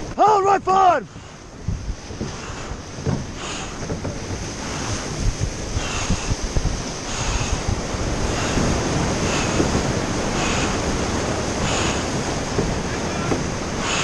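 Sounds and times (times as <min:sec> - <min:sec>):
rushing white water: 0:00.0 - 0:14.0
wind buffeting microphone: 0:00.0 - 0:14.0
soft hiss of oar strokes: 0:01.0 - 0:14.0.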